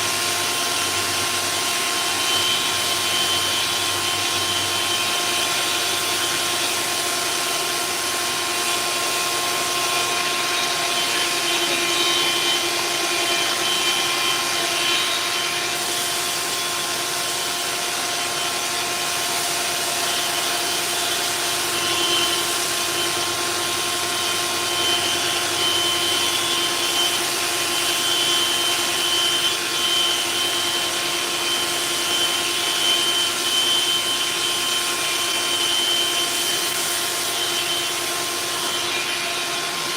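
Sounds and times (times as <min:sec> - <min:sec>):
orbital sander running: 0:00.0 - 0:39.9.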